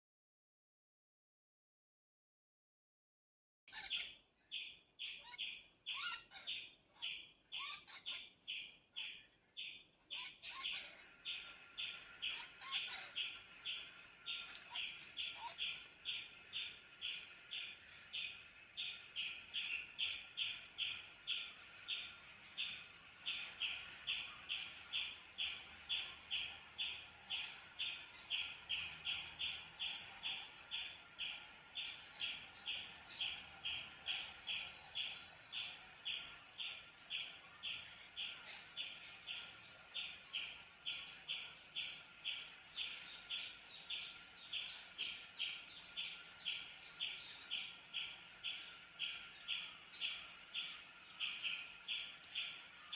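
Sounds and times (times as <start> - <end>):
faint bird calls: 3.7 - 52.9.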